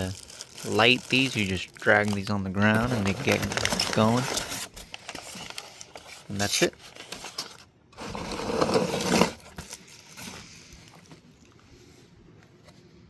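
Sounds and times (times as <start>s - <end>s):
packaging scraping and rustling: 0.0s - 11.3s
faint handling sounds: 0.0s - 13.0s.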